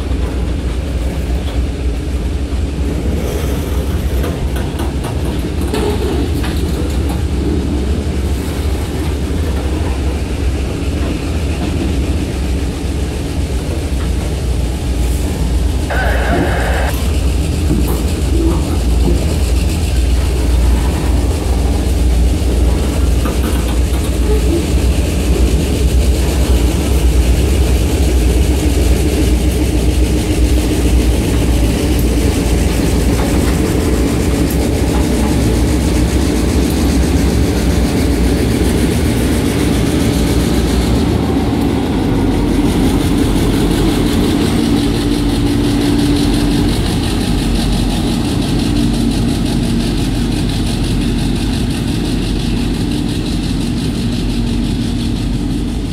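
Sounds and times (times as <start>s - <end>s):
diesel locomotive engine drone: 0.0s - 55.9s
train wheels rumbling on rails: 0.0s - 55.9s.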